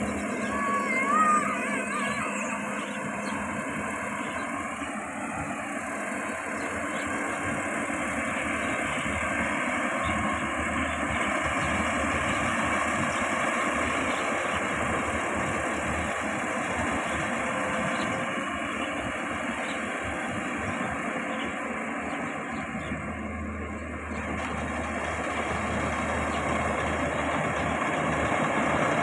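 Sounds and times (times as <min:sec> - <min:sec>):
combine harvester engine droning: 0:00.0 - 0:29.0.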